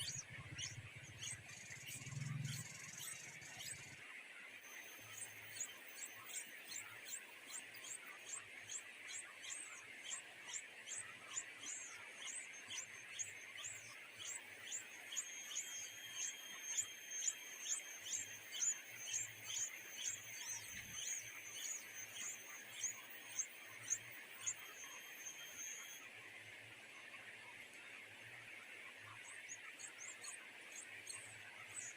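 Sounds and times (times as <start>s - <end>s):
small bird chirping: 0.0s - 26.1s, 26.9s - 31.9s.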